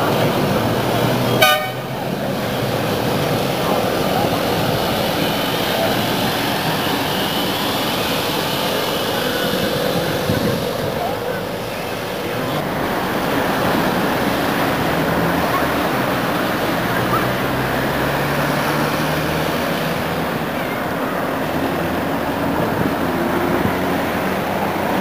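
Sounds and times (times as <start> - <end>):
street traffic: 0.0 - 25.0
tram approaching on track: 0.0 - 25.0.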